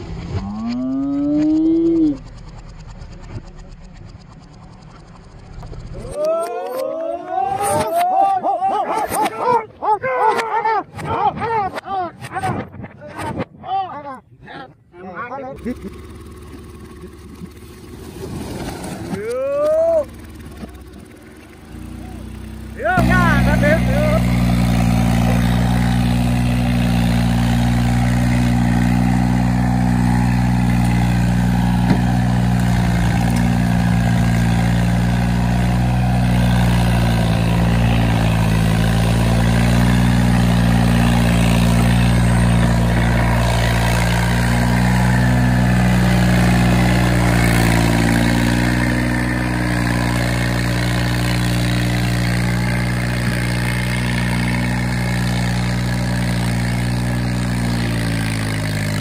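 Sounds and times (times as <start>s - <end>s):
tractor engine droning: 0.0s - 9.8s, 15.5s - 59.0s.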